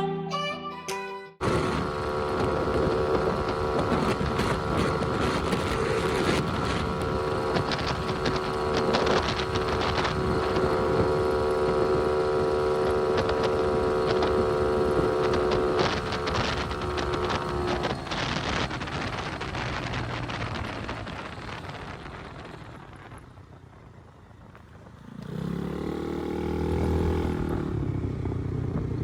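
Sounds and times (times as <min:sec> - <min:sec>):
small motorbike engine running: 0:01.4 - 0:29.0
wind rumble on microphone: 0:01.4 - 0:29.0.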